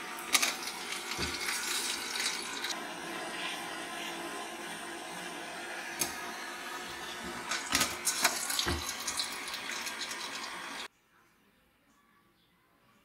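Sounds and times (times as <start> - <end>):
hot steel sizzling in oil: 0.0 - 10.9.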